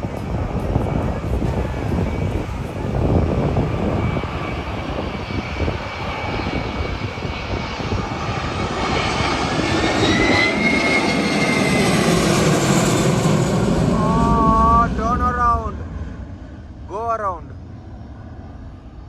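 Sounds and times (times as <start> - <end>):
jet engine whine rising: 0.0 - 19.0
jet engines rumbling: 0.0 - 19.0.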